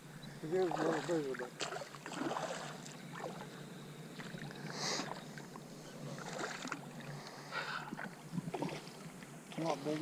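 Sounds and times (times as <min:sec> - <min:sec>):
shallow water splashing: 0:00.5 - 0:10.0.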